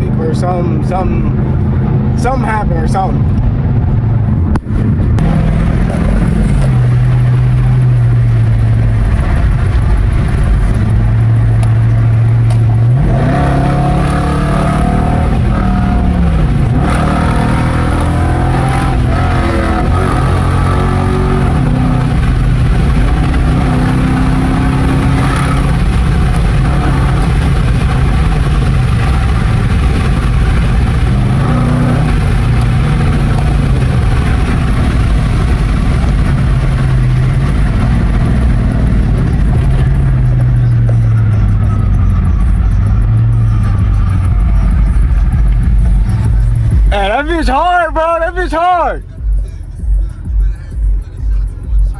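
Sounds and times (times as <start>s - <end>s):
car engine droning and revving: 0.0s - 51.9s.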